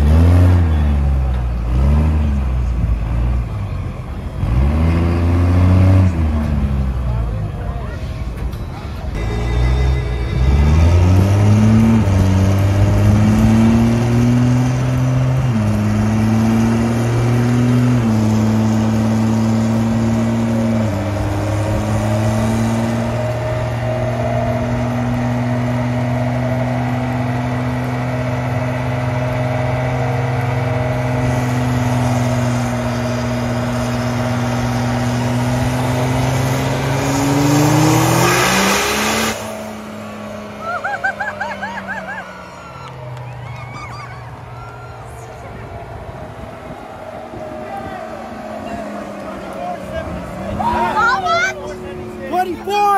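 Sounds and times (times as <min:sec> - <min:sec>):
diesel engine at full throttle: 0:00.0 - 0:52.9.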